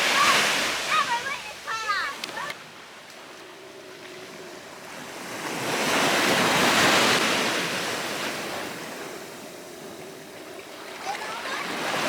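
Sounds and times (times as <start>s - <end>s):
ocean wave breaking: 0.0s - 12.0s.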